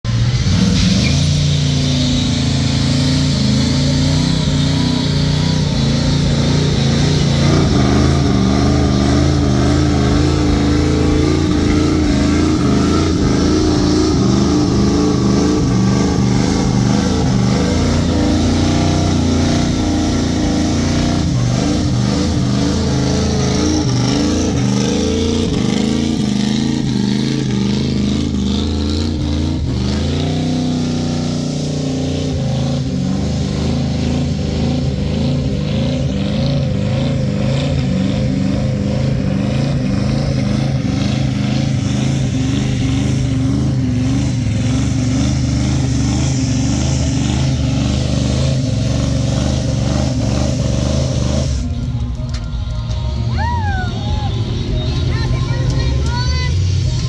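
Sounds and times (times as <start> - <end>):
truck engine revving high: 0.0 - 57.0.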